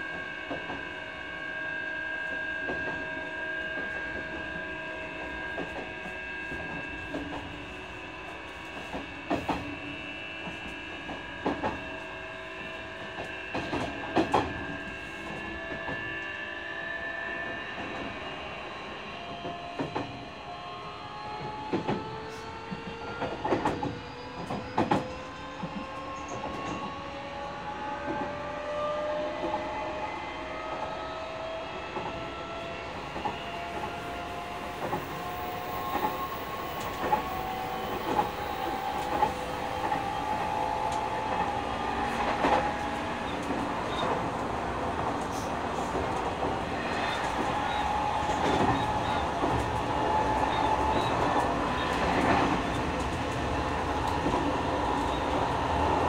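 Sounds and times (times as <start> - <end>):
electric train motor whine: 0.0 - 56.0.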